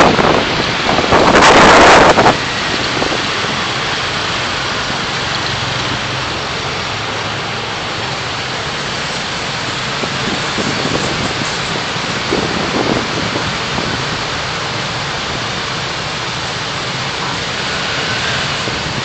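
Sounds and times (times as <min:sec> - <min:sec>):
loud rush of noise: 0:00.0 - 0:19.0
low engine hum: 0:00.0 - 0:19.0
tyres and air hissing: 0:00.1 - 0:19.0.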